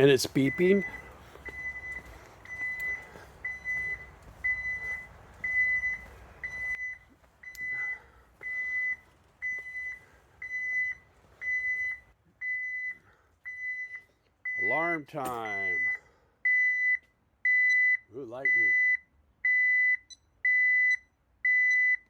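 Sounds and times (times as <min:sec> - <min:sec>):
alarm keypad beeping: 0:00.0 - 0:22.0.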